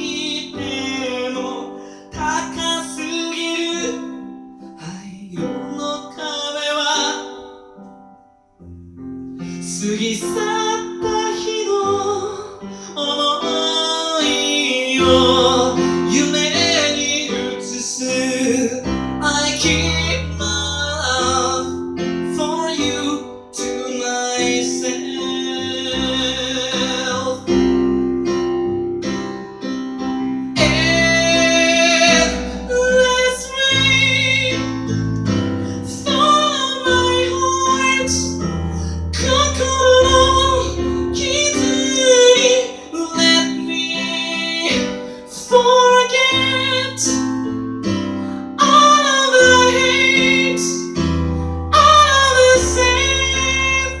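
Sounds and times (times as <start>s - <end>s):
piano: 0.0s - 54.0s.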